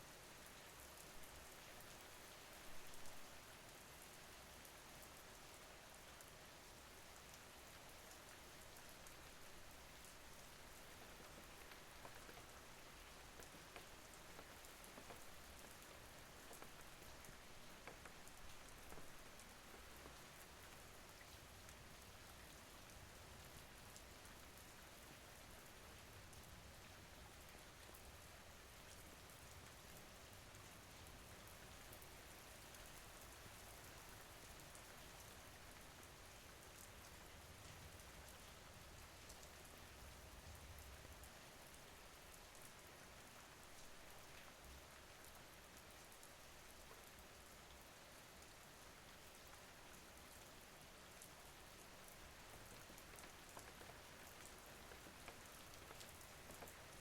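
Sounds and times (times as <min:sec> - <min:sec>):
faint steady rain: 0:00.0 - 0:57.0.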